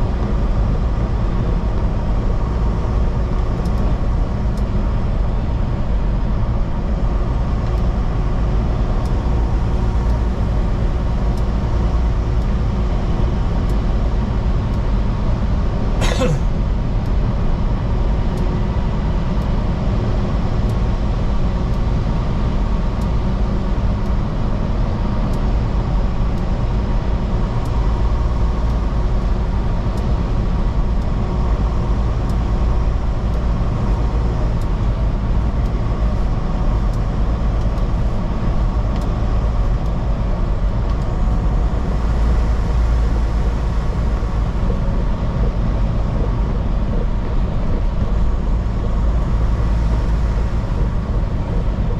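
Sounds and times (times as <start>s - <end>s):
truck engine and road noise: 0.0s - 51.9s.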